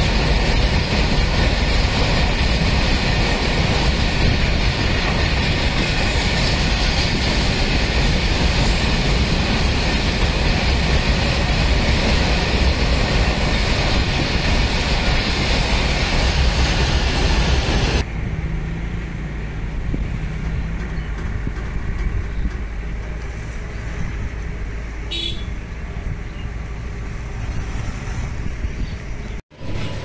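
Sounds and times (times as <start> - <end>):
freight train rumbling on rails: 0.0 - 30.0
road traffic: 0.0 - 30.0.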